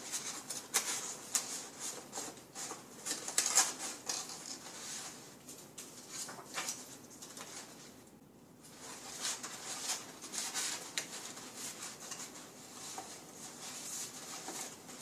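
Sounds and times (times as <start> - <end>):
paper rustling and crinkling: 0.0 - 8.1, 8.7 - 15.0.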